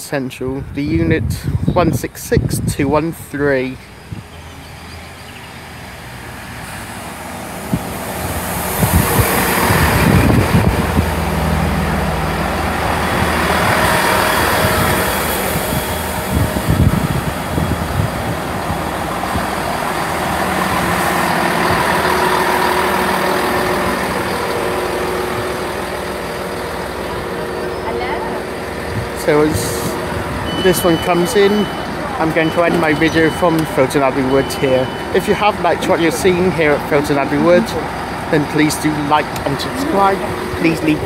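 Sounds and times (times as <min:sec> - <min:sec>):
diesel train engines: 0:00.0 - 0:41.0.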